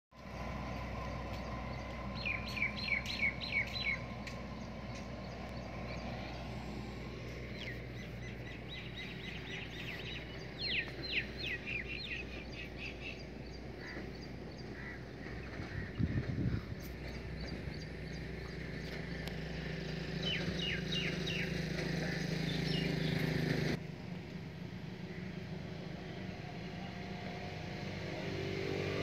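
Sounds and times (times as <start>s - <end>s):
low outdoor hum: 0.1s - 29.0s
bird chirping descending runs: 0.2s - 23.8s.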